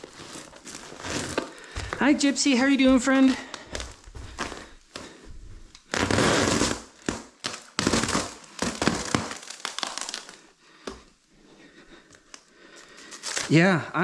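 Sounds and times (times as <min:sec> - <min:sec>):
plastic film crinkling: 0:00.0 - 0:10.6, 0:12.1 - 0:13.6.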